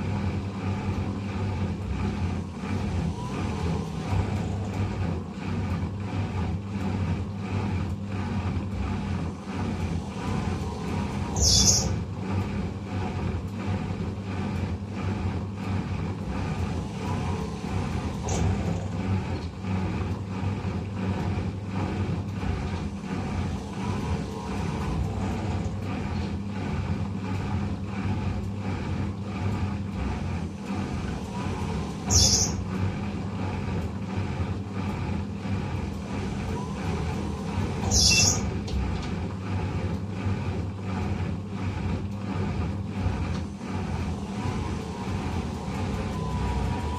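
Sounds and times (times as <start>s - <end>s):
washing machine humming: 0.0s - 46.9s.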